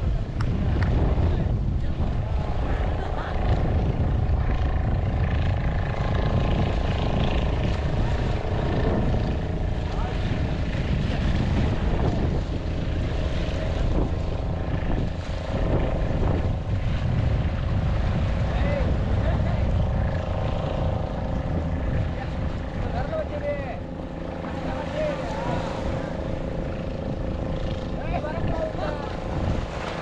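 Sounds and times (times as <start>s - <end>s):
engine drone with low rumble: 0.0s - 30.0s.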